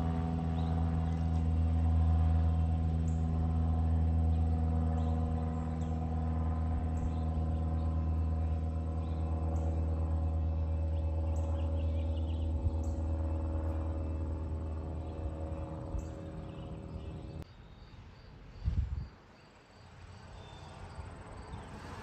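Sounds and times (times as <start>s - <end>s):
propeller plane droning overhead: 0.0s - 22.0s.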